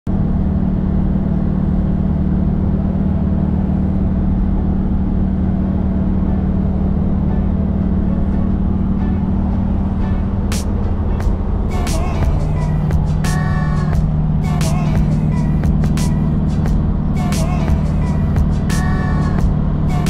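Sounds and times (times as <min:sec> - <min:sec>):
vehicle cabin engine and tyre drone: 0:00.0 - 0:20.0.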